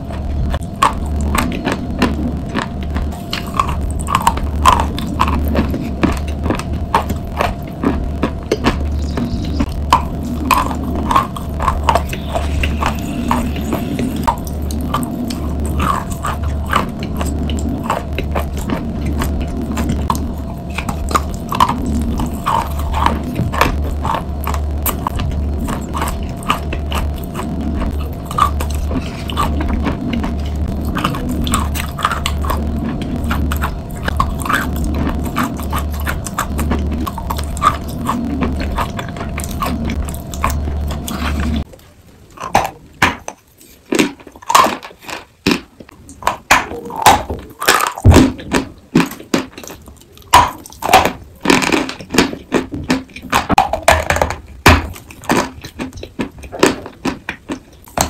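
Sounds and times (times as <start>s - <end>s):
chewing and crunching chalk: 0.0s - 58.0s
steady low hum: 0.0s - 58.0s.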